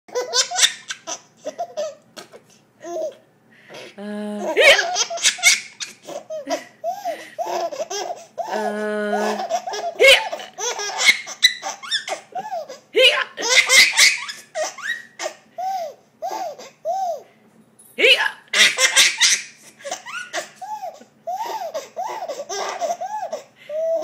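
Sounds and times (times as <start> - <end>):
baby laughing: 0.1 - 17.2, 18.5 - 24.0.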